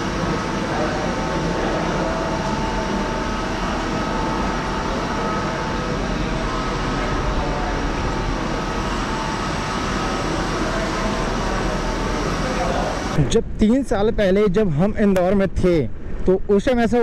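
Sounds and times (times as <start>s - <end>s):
faint steady whine: 0.0s - 17.0s.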